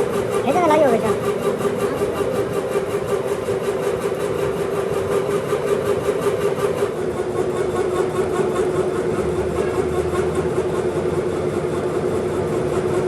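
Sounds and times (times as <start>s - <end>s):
machine humming and pulsing: 0.0s - 13.0s.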